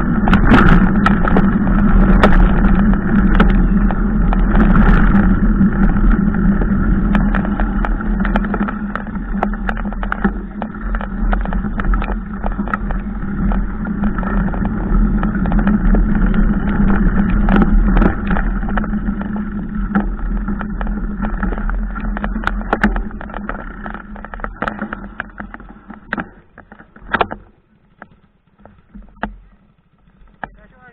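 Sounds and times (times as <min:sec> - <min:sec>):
knocks and rattles over ruts: 0:00.0 - 0:30.9
riding noise drone: 0:00.0 - 0:30.9.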